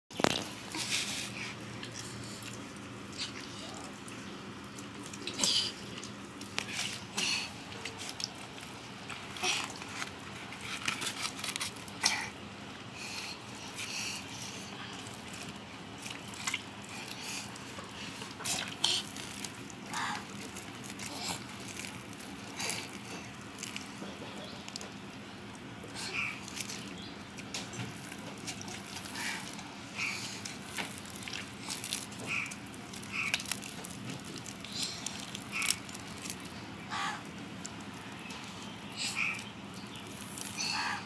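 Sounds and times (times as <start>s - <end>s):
hands tearing fibrous fruit pulp: 0.1s - 12.4s, 15.0s - 41.0s
faint steady hum: 0.1s - 41.0s.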